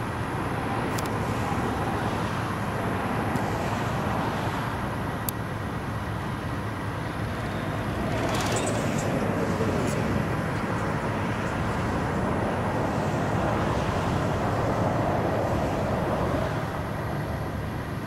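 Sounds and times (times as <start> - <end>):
faint engine whine: 0.0 - 18.0
jet engines running: 0.0 - 18.0.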